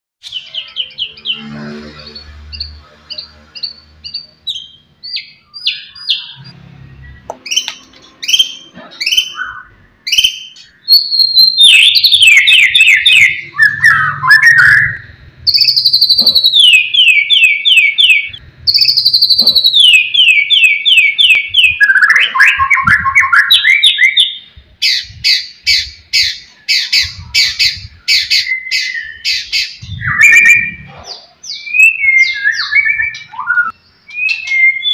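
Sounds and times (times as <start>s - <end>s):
bird singing whistled notes: 0.2s - 34.9s.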